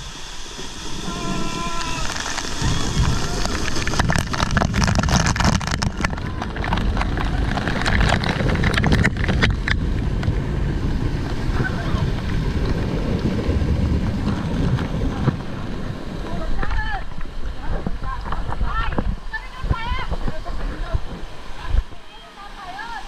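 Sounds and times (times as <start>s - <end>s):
waterfall pouring: 0.0s - 21.7s
water splashing on microphone: 0.0s - 23.0s.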